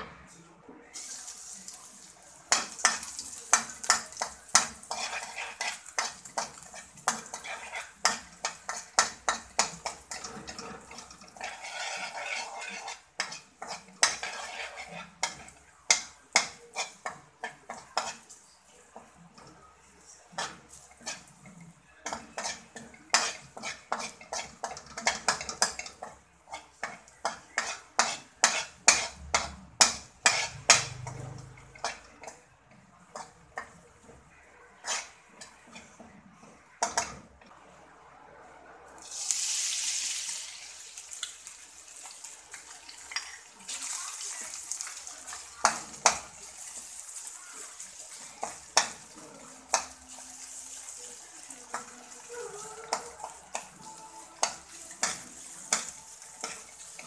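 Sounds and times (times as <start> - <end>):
garlic sizzling: 0.9 - 37.4, 39.0 - 57.0
metal spatula scraping a wok: 2.5 - 18.4, 20.3 - 37.3, 42.0 - 57.0.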